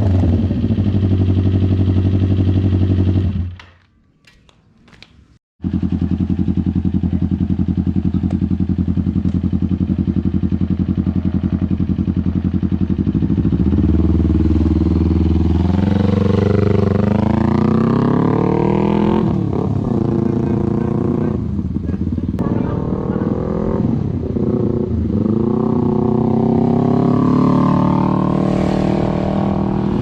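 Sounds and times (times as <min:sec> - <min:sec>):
motorcycle engine idling and revving: 0:00.0 - 0:03.7, 0:05.6 - 0:30.0.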